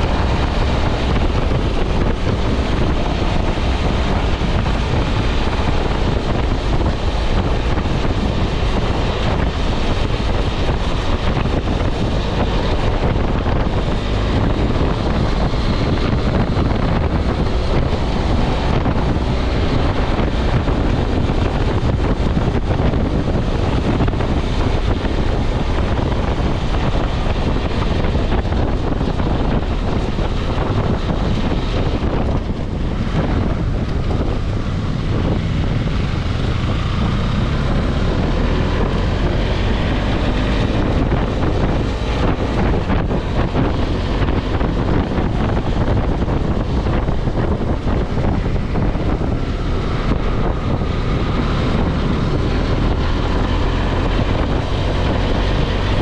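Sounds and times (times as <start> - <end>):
motorcycle engine and tyre noise: 0.0 - 56.0
wind rushing over microphone: 0.0 - 56.0.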